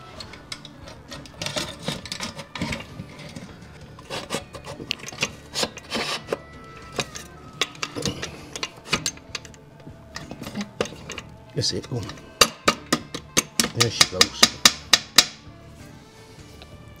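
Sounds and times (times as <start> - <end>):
hand tools clicking on metal: 0.0 - 15.5.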